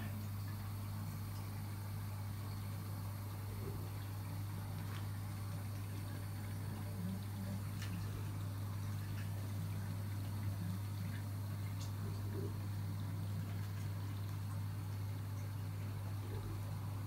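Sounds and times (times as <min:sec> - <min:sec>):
faint circulating water: 0:00.0 - 0:17.0
low hum of pumps: 0:00.0 - 0:17.0.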